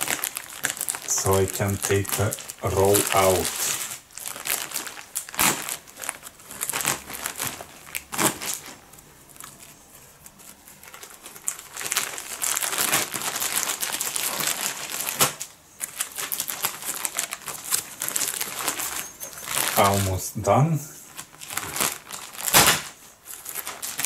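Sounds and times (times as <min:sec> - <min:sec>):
plastic film crinkling: 0:00.0 - 0:24.0.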